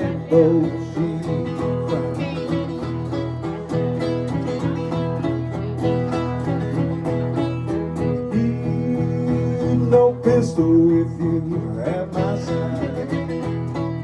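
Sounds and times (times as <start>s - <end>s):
bass line: 0.0s - 14.0s
fingerpicked acoustic blues guitar: 0.0s - 14.0s.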